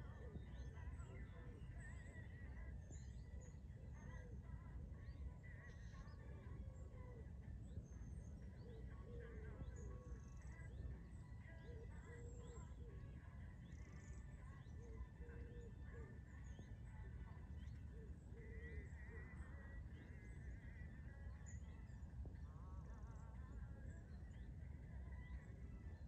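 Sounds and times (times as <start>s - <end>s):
animal calls and chirps: 0.0s - 26.0s.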